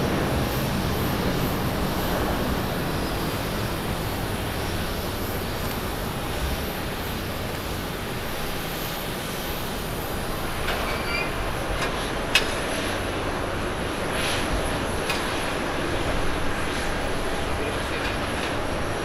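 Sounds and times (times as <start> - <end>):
distant jet engine noise: 0.0 - 19.0.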